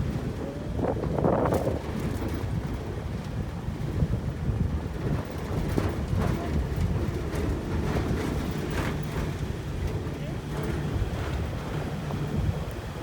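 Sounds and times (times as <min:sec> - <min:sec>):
vehicle rumbling on rough road: 0:00.0 - 0:13.0.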